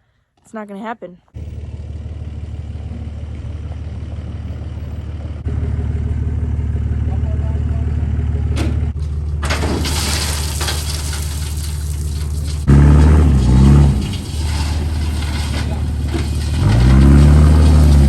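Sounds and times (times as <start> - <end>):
vehicle engine humming: 1.3 - 18.0.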